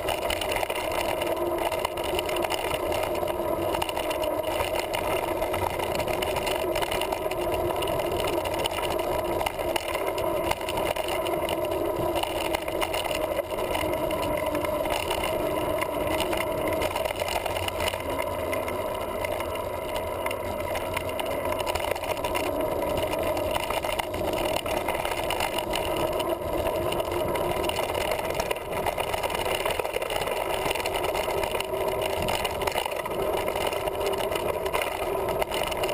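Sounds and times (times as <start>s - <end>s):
bike tyres rolling on dirt: 0.0s - 35.9s.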